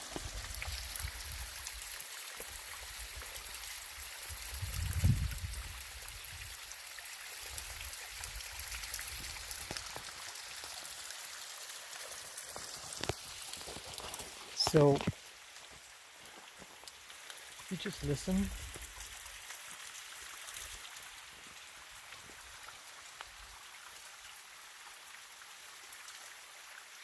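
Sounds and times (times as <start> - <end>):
creek running over rocks: 0.0 - 27.0.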